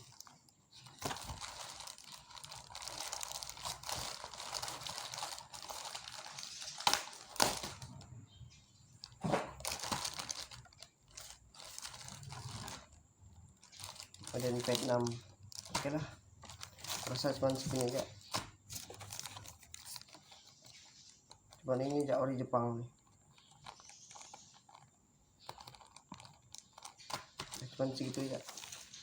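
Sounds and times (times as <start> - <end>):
packaging crinkling: 0.0 - 8.2, 8.9 - 29.0.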